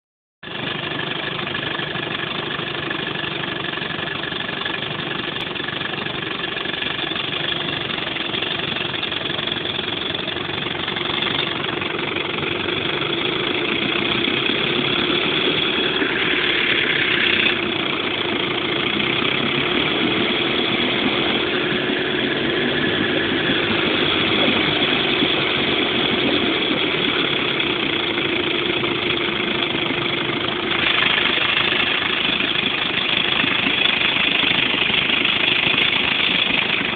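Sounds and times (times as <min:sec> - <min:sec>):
outboard engine idling: 0:00.4 - 0:36.9.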